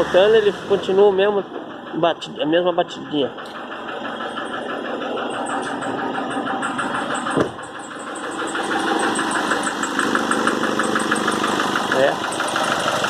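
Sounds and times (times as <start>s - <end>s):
diesel engine with light knock: 0.0s - 13.0s.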